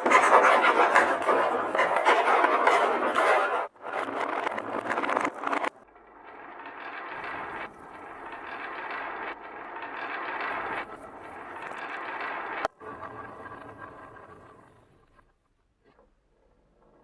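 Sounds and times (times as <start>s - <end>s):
wooden balls rolling and clattering: 0.0s - 17.0s.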